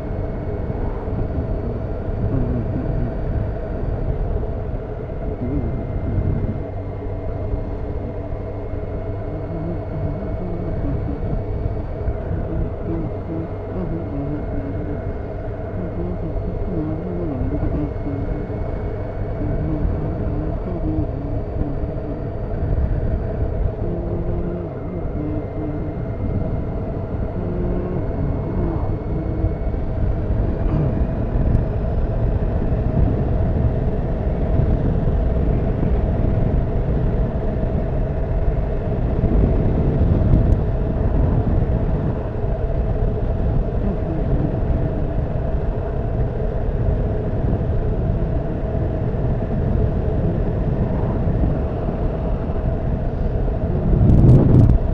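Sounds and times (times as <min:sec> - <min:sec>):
motorcycle engine running: 0:00.0 - 0:54.9
wind rush on microphone: 0:00.0 - 0:54.9.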